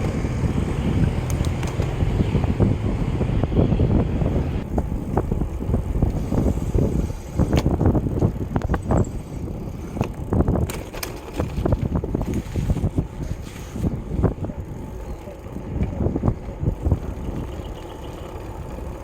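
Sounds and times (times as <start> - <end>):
bicycle rolling: 0.0 - 19.0
wind on microphone: 0.0 - 19.0.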